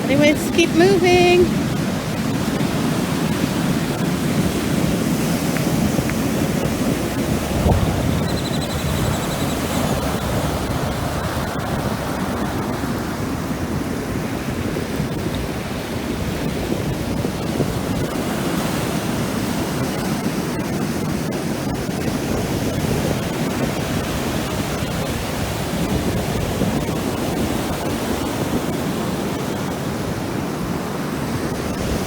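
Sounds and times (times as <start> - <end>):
waves breaking on beach: 0.0 - 8.3, 9.8 - 32.0.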